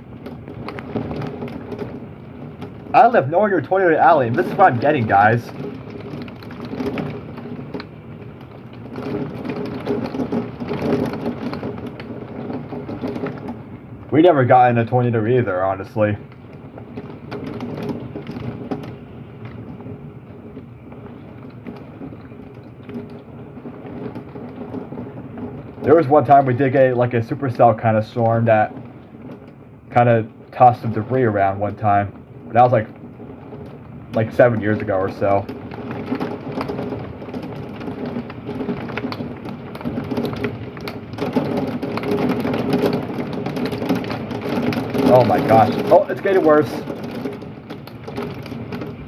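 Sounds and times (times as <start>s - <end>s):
heavy rain pouring: 0.0s - 49.0s
raindrops ticking nearby: 0.0s - 49.0s.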